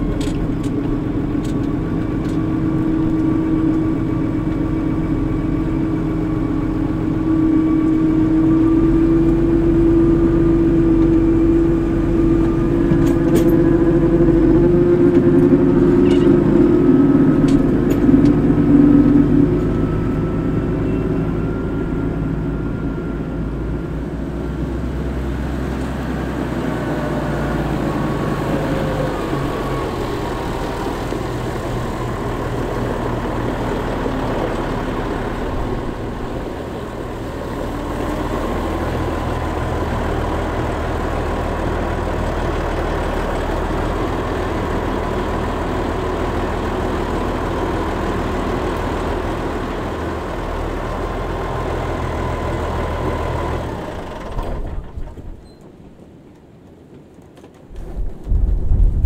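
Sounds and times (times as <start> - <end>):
tractor diesel engine running: 0.0 - 55.8.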